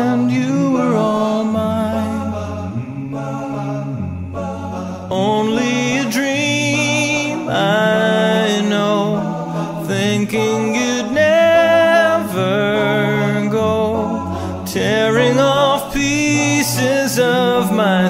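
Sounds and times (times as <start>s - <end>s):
choir-like voices singing harmony: 0.0s - 18.0s.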